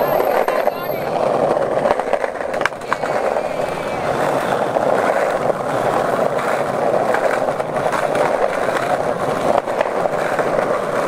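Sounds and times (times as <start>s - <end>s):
skateboard wheels rolling on asphalt: 0.0s - 11.0s.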